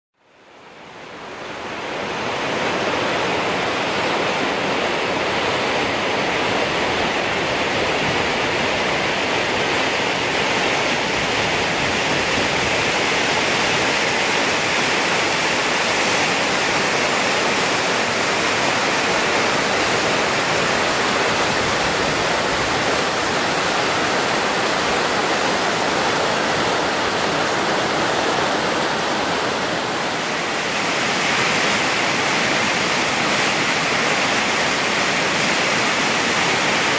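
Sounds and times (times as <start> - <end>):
whitewater rushing: 0.2 - 36.9.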